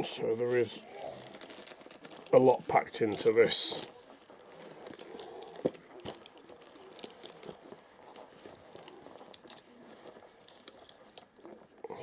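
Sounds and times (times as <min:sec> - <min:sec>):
leather pouch rustling: 0:00.0 - 0:12.0.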